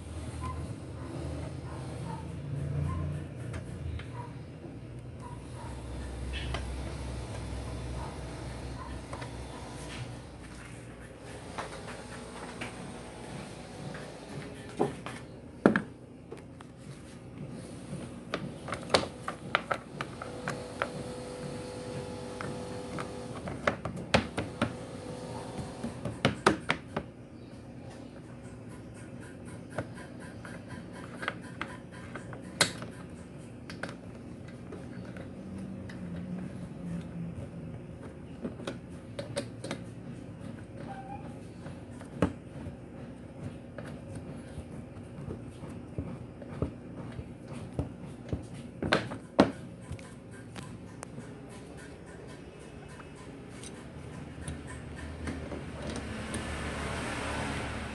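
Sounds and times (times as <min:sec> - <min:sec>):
steady background noise: 0:00.0 - 0:57.9.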